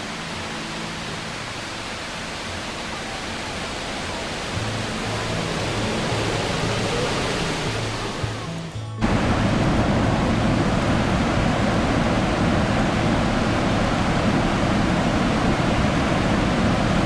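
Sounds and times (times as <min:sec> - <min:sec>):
low background music: 0:00.0 - 0:17.0
waterfall roaring: 0:00.0 - 0:17.0.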